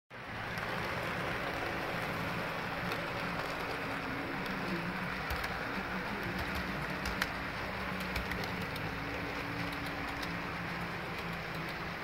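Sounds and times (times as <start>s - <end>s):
model train running on track: 0.1s - 12.0s.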